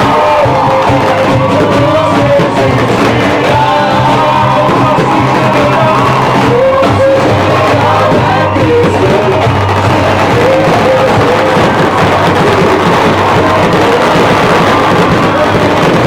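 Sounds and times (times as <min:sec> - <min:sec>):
group singing worship song: 0:00.0 - 0:16.0
instrumental accompaniment: 0:00.0 - 0:16.0.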